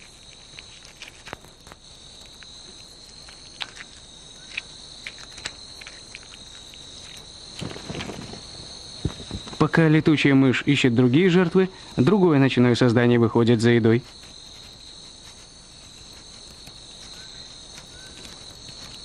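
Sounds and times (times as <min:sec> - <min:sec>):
night insects trilling: 0:00.0 - 0:19.0
rustle: 0:00.0 - 0:19.0.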